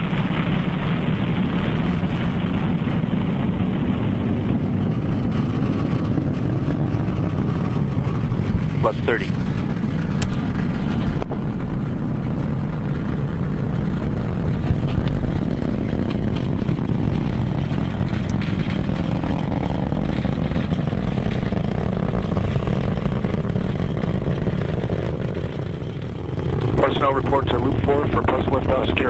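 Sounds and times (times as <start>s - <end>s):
rocket engines low rumble: 0.0s - 29.0s.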